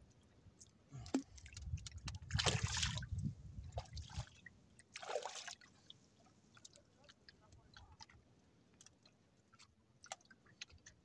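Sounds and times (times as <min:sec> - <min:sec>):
water splashing beside boat: 0:01.0 - 0:11.0.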